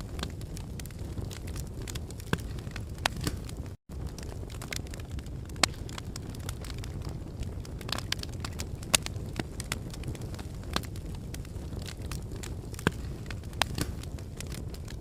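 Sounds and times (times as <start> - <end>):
lava cracking and clinking: 0.0 - 15.0.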